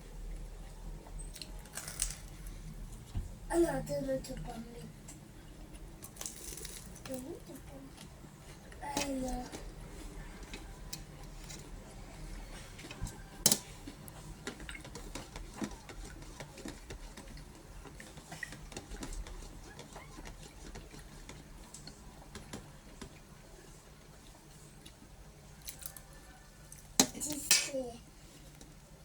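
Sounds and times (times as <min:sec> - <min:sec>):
chewing toasted bread: 0:00.3 - 0:03.1, 0:05.0 - 0:08.8, 0:09.4 - 0:27.0.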